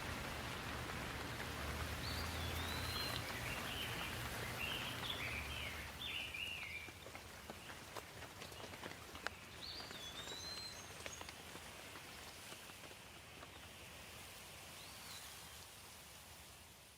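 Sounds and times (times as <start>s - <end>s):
light steady rain: 0.0s - 16.9s.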